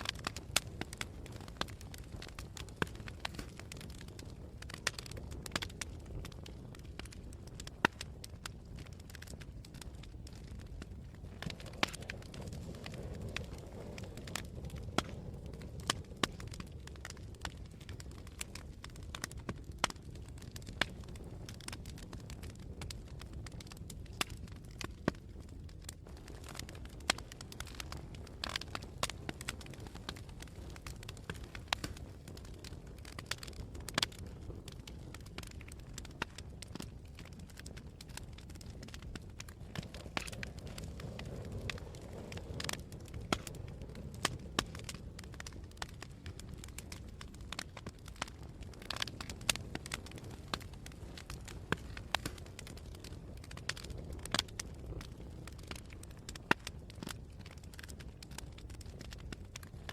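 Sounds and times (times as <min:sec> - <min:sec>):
campfire crackling and popping: 0:00.0 - 0:59.9
low rumble of flames: 0:00.0 - 0:59.9
wind: 0:00.0 - 0:59.9.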